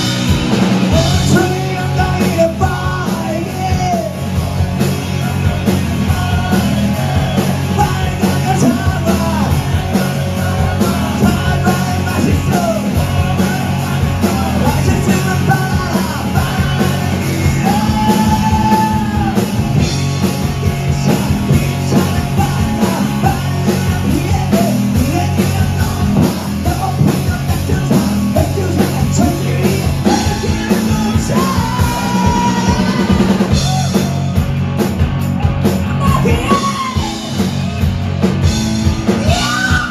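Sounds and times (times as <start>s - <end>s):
distorted electric guitars: 0.0s - 39.9s
drum kit: 0.0s - 39.9s
person singing: 0.9s - 19.8s, 20.6s - 34.4s, 35.9s - 37.4s.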